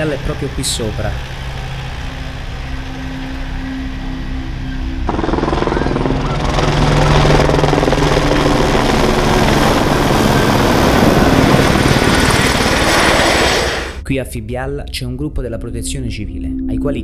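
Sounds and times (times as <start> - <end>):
engine running: 0.0 - 14.0
helicopter rotor overhead: 0.0 - 14.0.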